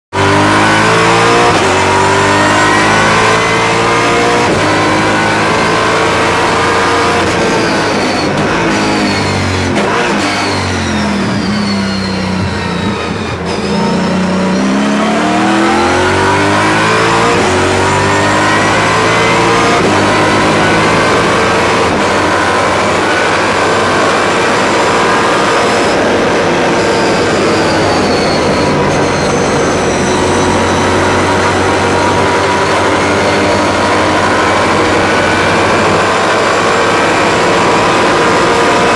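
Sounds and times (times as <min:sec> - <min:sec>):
race car engine revving: 0:00.1 - 0:38.9.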